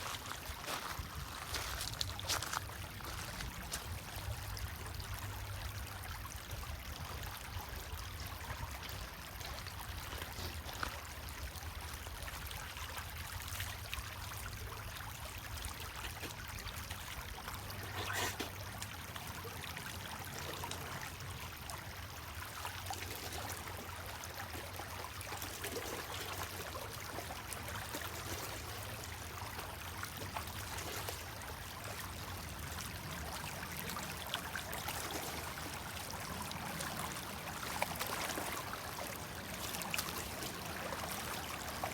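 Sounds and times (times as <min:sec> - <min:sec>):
water trickling: 0:00.0 - 0:41.9.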